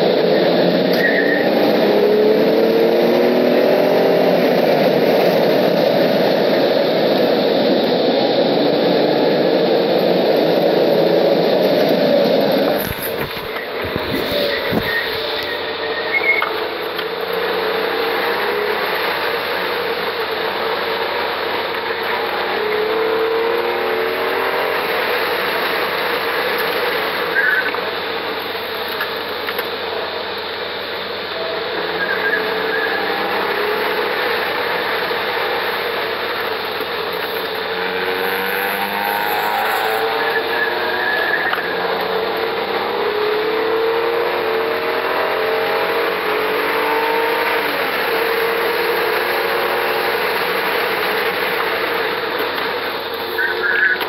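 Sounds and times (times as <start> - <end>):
car engine accelerating: 0.0 - 54.0
road and tyre noise: 0.0 - 54.0
car braking: 0.2 - 7.3, 10.0 - 54.0.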